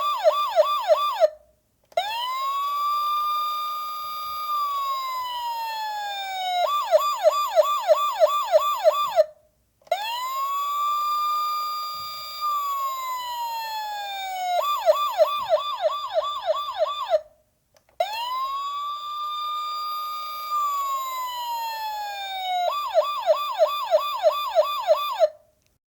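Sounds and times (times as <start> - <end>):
police siren wail and yelp: 0.0 - 1.4, 2.0 - 9.3, 9.9 - 17.3, 18.0 - 25.4.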